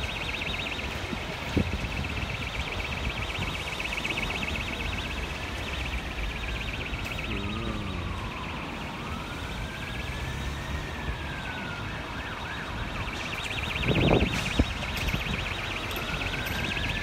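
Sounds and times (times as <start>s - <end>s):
emergency sirens: 0.0s - 17.0s.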